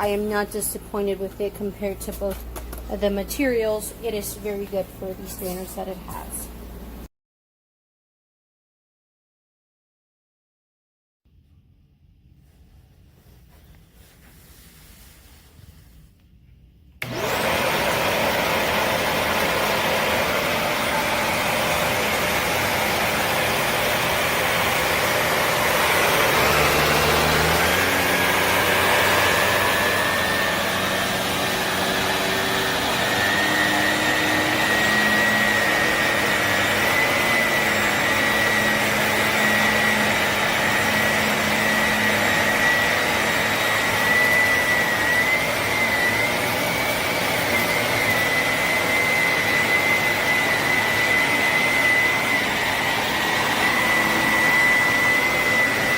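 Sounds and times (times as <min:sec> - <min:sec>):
upright vacuum running: 0:00.0 - 0:07.1, 0:17.0 - 0:55.9.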